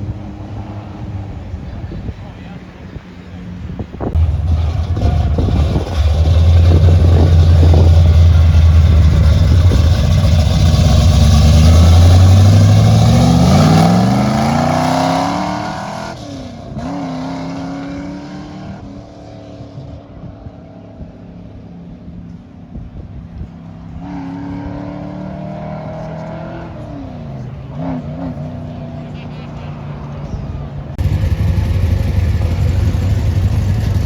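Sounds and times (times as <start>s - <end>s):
car engine accelerating: 0.0s - 19.4s, 23.9s - 34.0s.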